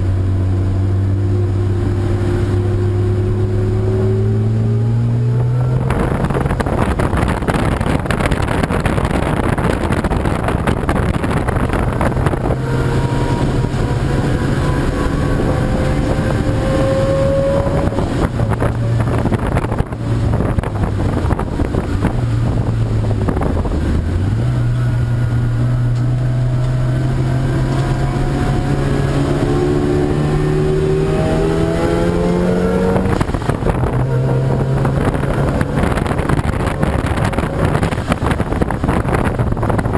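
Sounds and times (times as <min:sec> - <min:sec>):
race car engine under load: 0:00.0 - 0:39.9
road and wind noise: 0:00.0 - 0:39.9.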